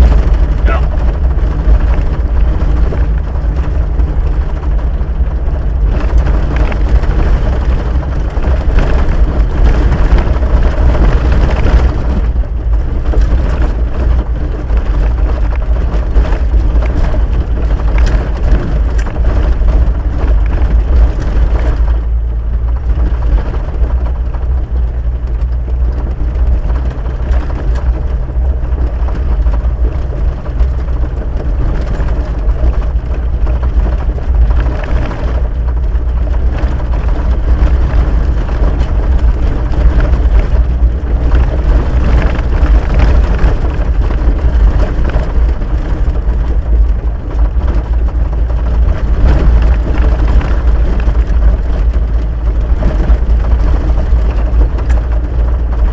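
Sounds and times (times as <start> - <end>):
low engine drone: 0.0 - 55.9.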